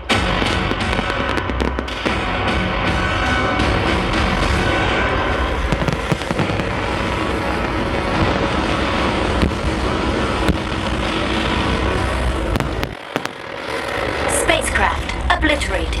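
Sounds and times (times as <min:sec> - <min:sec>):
fireworks bangs and crackles: 0:00.0 - 0:16.0
loud soundtrack music: 0:00.0 - 0:16.0.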